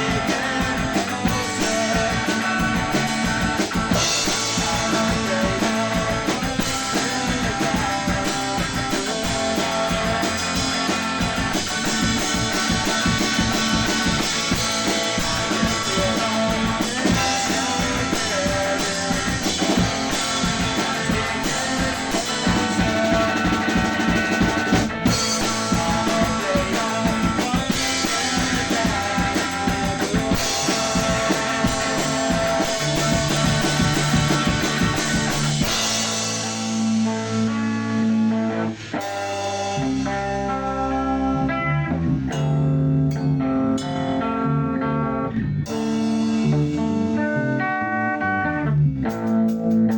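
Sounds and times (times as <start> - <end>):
drum kit: 0.0 - 44.8, 45.6 - 49.9
rock guitar: 0.0 - 49.9.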